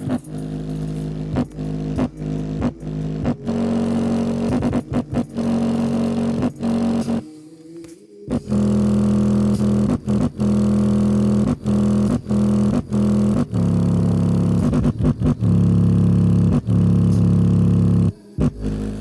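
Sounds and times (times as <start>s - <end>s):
subwoofer playing low bass note: 0.0s - 7.2s, 8.3s - 19.0s.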